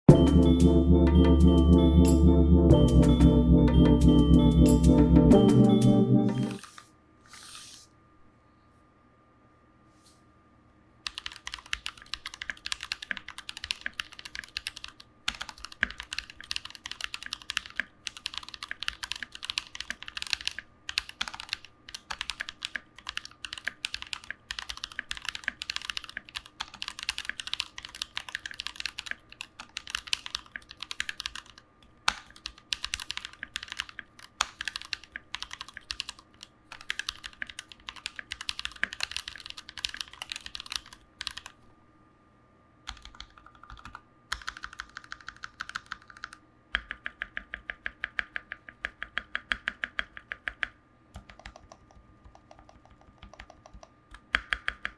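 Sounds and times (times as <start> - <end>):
mechanical keyboard typing: 6.2 - 7.8, 11.0 - 41.6, 42.9 - 54.9.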